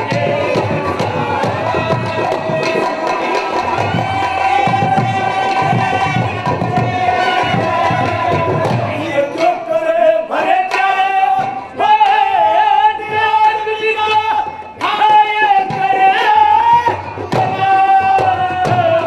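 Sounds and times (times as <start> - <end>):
dholak drum strokes: 0.0 - 19.0
men singing: 0.0 - 19.0.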